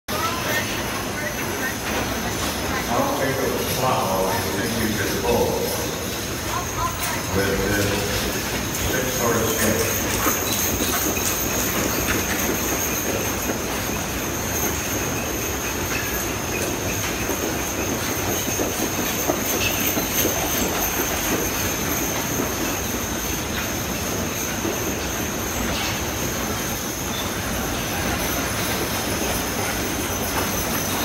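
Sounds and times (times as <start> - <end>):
harness and wagon wheels rattling: 0.1 - 31.0
horse hoofbeats on dirt: 0.1 - 31.0.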